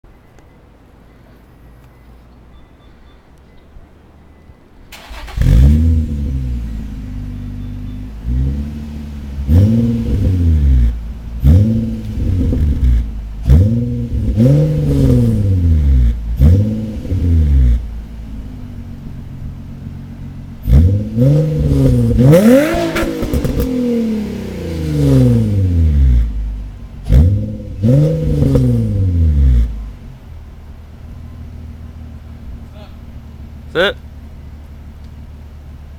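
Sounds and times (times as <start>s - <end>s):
car engine revving: 4.9s - 35.6s.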